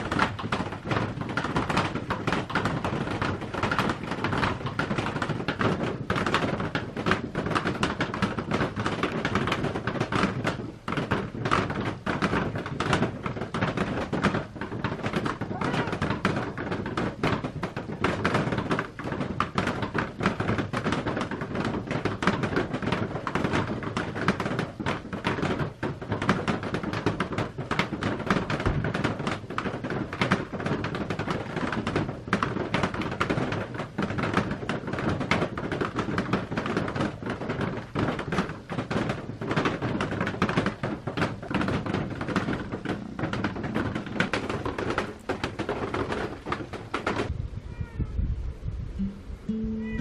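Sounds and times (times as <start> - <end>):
rain on a plastic roof: 0.0 - 50.0.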